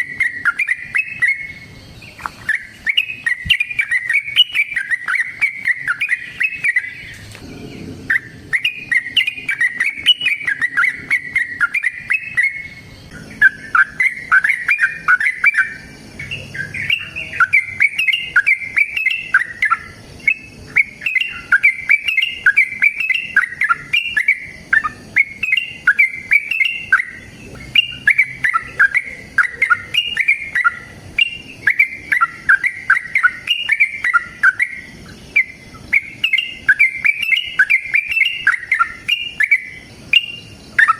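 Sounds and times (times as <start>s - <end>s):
bird singing warbling phrases: 0.0s - 40.9s.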